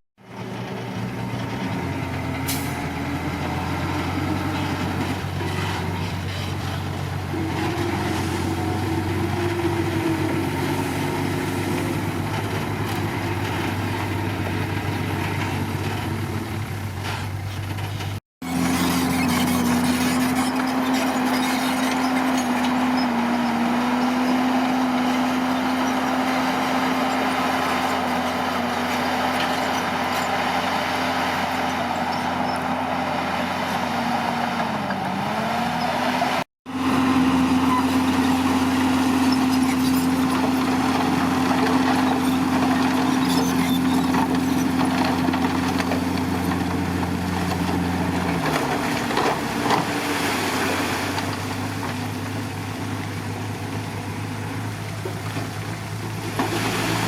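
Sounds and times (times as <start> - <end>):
bulldozer diesel engine running: 0.2 - 57.0.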